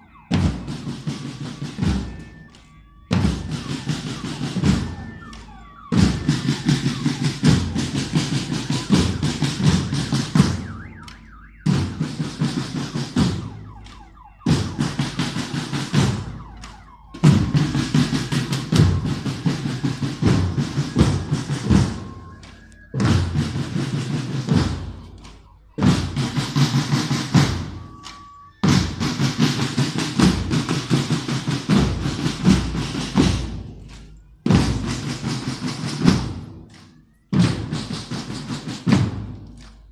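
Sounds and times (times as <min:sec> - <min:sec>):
marching band drums: 0:00.0 - 0:39.9.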